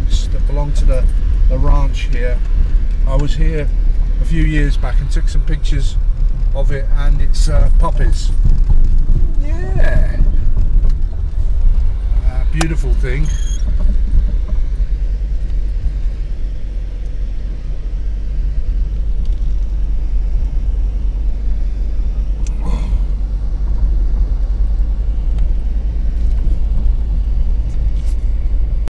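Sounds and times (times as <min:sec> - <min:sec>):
car engine and road rumble: 0:00.0 - 0:28.9.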